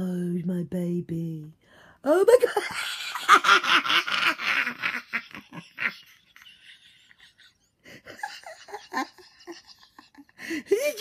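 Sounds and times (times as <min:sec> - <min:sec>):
woman laughing: 0:02.2 - 0:11.0.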